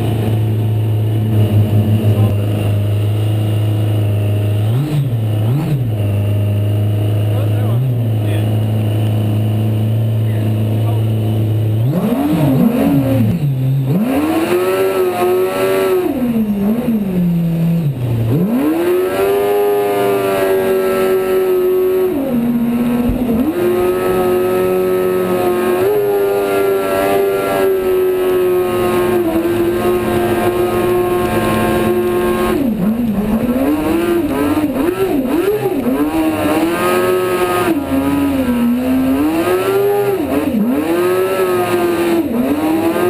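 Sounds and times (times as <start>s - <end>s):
motorcycle engine revving high: 0.0s - 43.0s.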